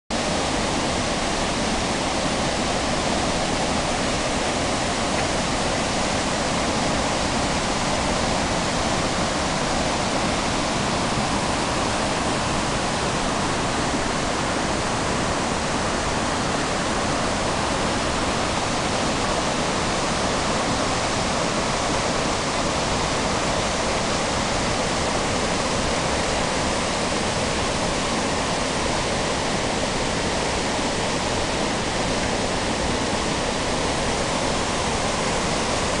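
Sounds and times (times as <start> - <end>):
stream rushing over rocks: 0.1 - 36.0.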